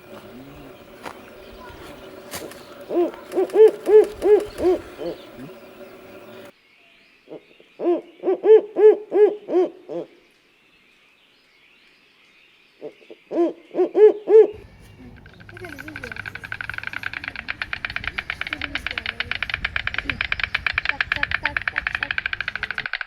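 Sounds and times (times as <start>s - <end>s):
bird calling: 0.0s - 10.4s, 12.7s - 23.0s.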